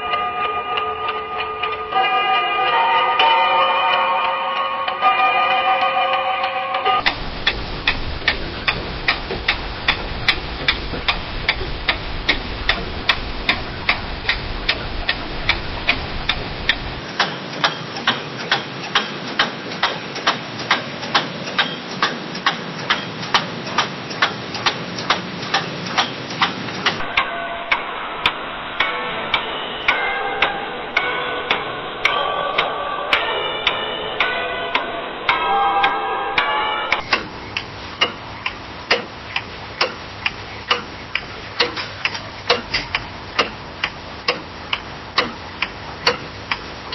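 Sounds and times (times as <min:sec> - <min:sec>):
clock ticking: 0:00.0 - 0:46.9.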